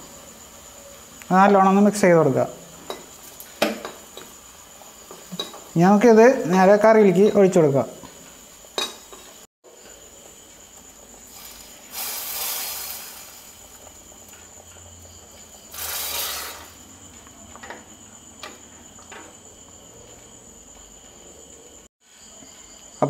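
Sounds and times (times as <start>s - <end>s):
hot oil sizzling: 0.0s - 19.1s.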